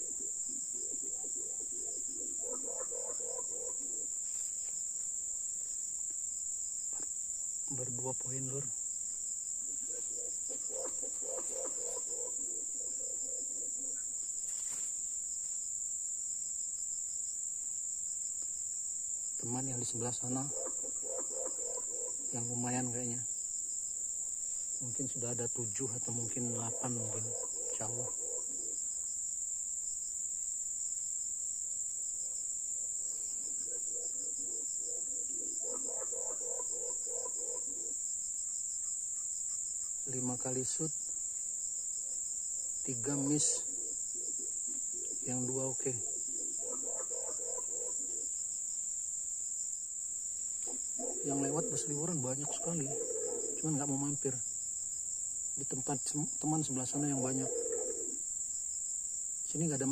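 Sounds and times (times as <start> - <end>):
insect chorus drone: 0.0 - 59.9.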